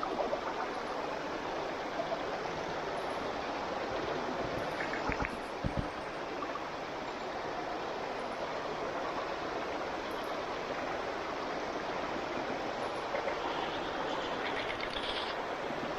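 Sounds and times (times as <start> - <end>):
stream water rushing: 0.0 - 15.9.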